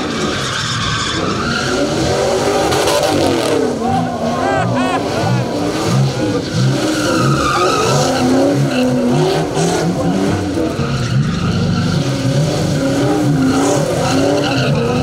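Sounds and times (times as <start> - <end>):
car engine revving: 0.0 - 15.0
tyres squealing on pavement: 0.0 - 15.0.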